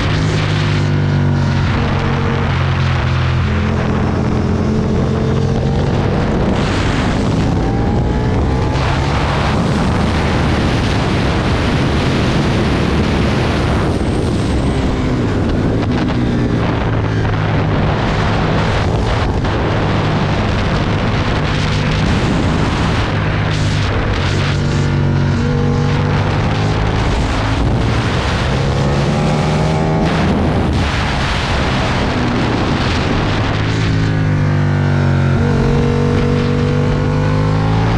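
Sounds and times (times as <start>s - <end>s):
motorcycle engine accelerating: 0.0s - 37.9s
wind rush over microphone: 0.0s - 37.9s.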